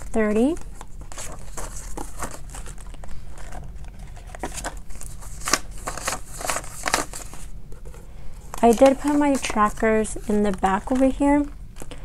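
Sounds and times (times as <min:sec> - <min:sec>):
banknotes rustling and flicking: 0:00.0 - 0:12.0.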